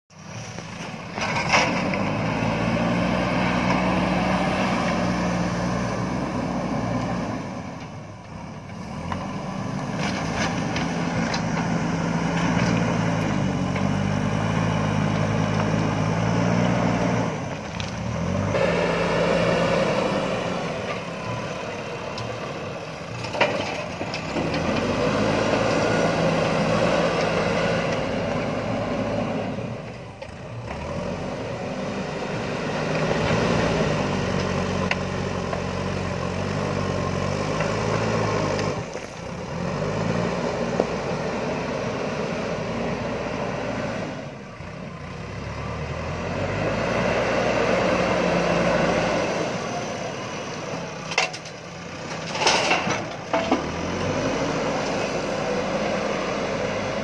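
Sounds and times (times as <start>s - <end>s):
diesel engine under load: 0.1s - 57.0s.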